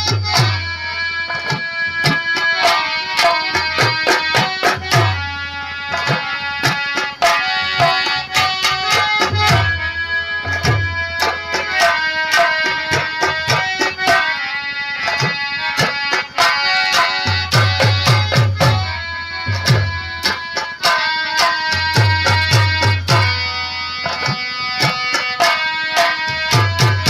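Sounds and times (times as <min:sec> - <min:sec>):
harmonium melody: 0:00.0 - 0:27.0.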